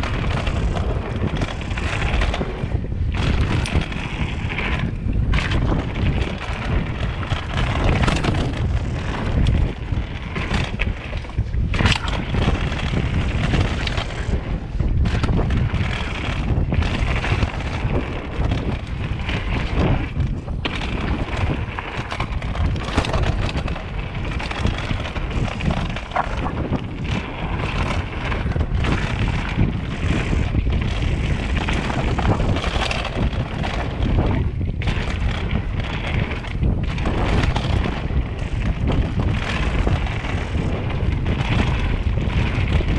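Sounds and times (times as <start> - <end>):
bike knocks and rattles: 0.0 - 42.9
mountain bike rumble on dirt: 0.0 - 42.9
wind buffeting microphone: 0.0 - 42.9.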